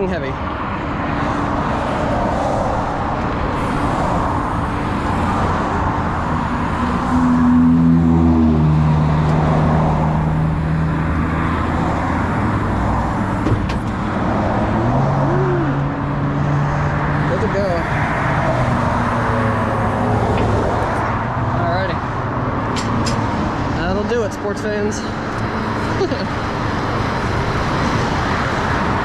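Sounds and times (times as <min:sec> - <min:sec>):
road noise: 0:00.0 - 0:29.0.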